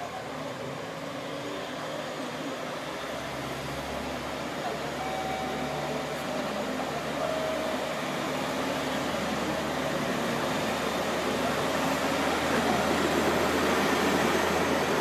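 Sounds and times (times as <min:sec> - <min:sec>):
diesel railcar engine running: 0:00.0 - 0:15.0.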